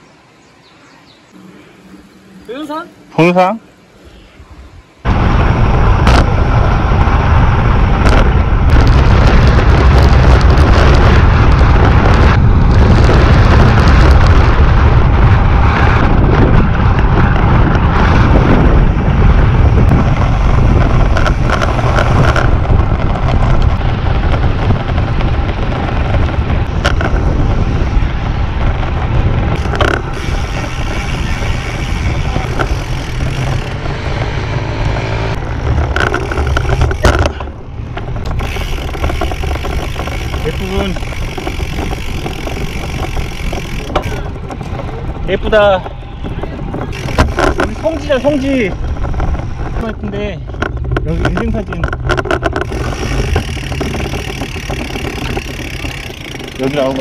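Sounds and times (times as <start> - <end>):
wind buffeting microphone: 1.1 - 57.0.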